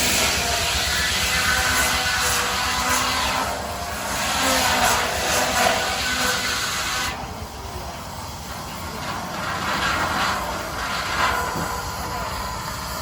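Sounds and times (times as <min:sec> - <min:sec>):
steam hissing: 0:00.0 - 0:13.0
steam puffs: 0:00.0 - 0:13.0.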